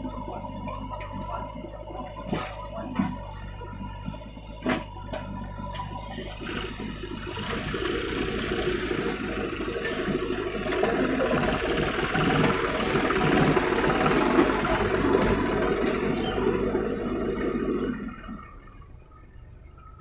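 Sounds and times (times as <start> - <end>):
backhoe engine running: 0.0 - 20.0
tractor diesel engine running: 0.0 - 20.0.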